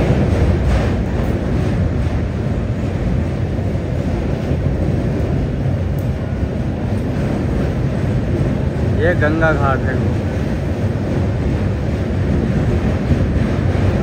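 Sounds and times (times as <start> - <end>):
train rumbling over bridge: 0.0 - 14.0.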